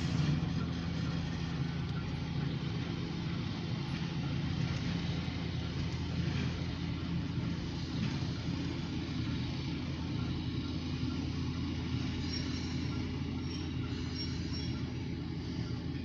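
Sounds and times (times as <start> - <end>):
diesel locomotive engine running: 0.0 - 16.0.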